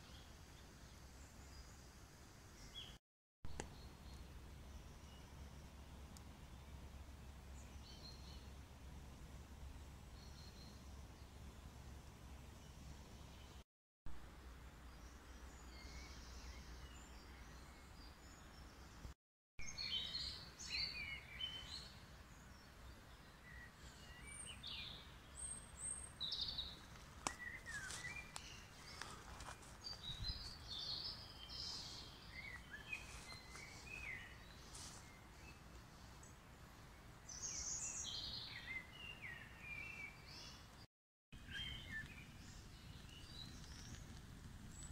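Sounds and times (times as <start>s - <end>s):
songbirds chirping and trilling: 3.6s - 13.6s, 14.2s - 44.9s.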